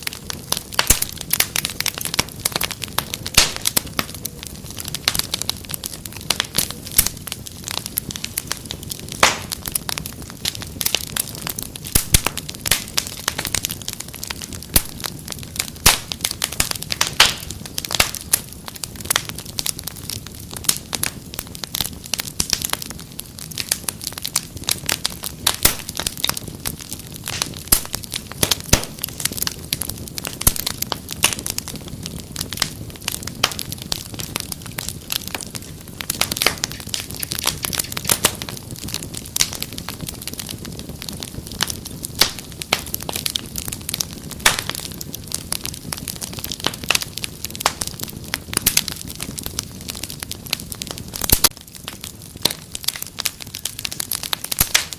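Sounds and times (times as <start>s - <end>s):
fire crackling: 0.0s - 54.9s.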